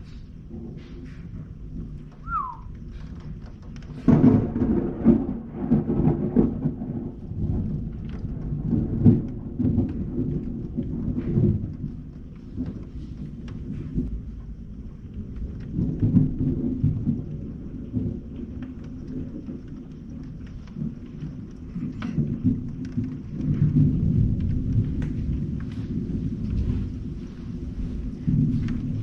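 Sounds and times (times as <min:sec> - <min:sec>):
thunder rumbling: 0:00.0 - 0:29.0
falling rain: 0:00.5 - 0:29.0.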